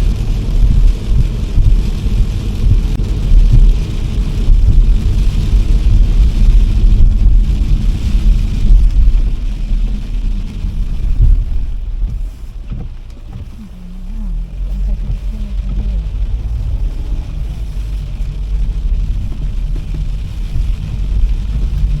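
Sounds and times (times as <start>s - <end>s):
car tyres on wet road: 0.0s - 22.0s
rain hiss and spray: 0.0s - 22.0s.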